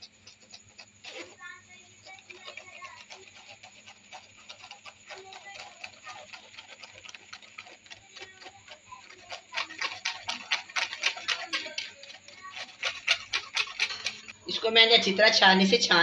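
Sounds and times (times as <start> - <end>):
metal spoon scraping a strainer: 0.0 - 14.7.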